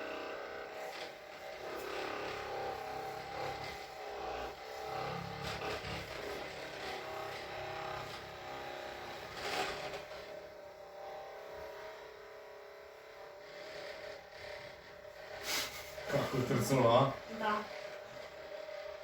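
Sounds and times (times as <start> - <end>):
small motor humming: 0.0 - 19.0.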